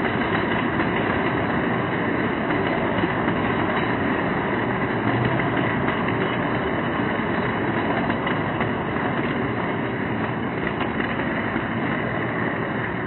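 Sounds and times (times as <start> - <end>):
toy train wheels on rails: 0.0 - 13.0.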